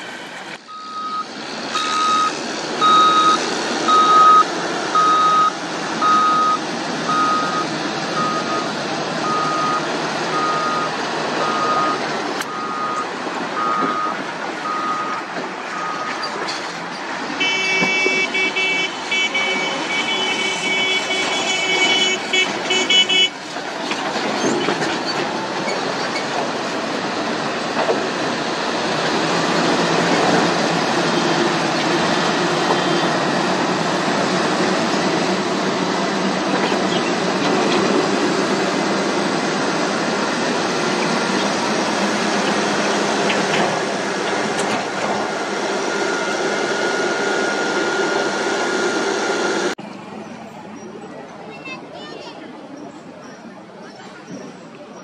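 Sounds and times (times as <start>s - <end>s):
diesel engine running under load: 0.0s - 51.4s.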